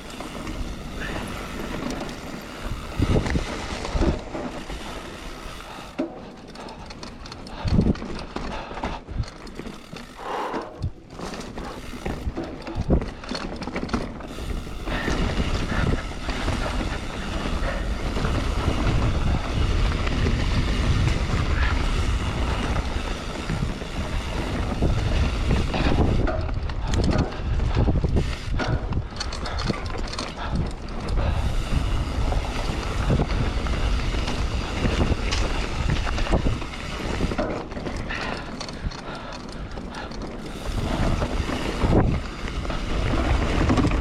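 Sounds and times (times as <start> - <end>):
bike knocks and rattles: 0.0 - 44.0
tyres and wind rushing: 0.0 - 44.0.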